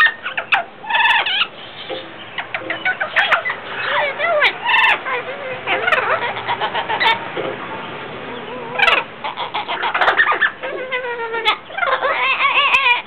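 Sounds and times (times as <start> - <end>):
parrots squawking: 0.0 - 13.0.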